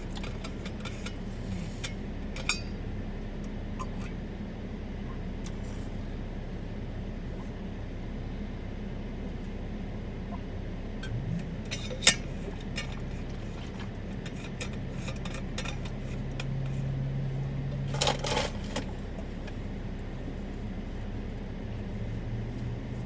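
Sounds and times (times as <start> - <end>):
low vehicle interior hum: 0.0 - 23.0.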